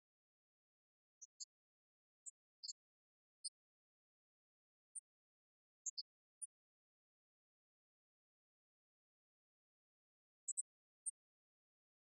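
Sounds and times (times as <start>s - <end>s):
faint high-pitched chirps: 0.0s - 12.0s.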